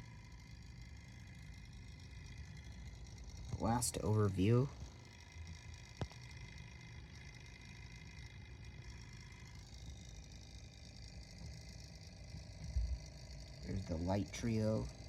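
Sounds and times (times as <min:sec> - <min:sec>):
computer cooling fans humming: 0:00.0 - 0:15.0
thin whining tones: 0:00.0 - 0:15.0.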